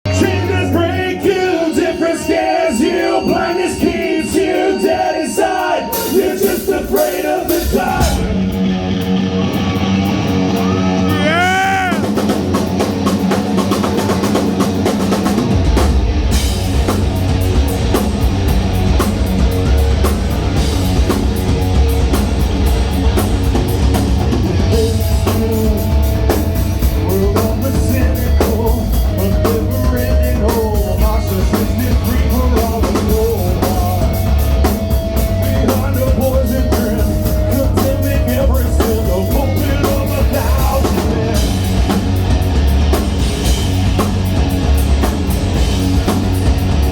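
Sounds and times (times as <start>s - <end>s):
rock band playing loudly: 0.0s - 46.9s
electric guitar: 7.1s - 46.9s.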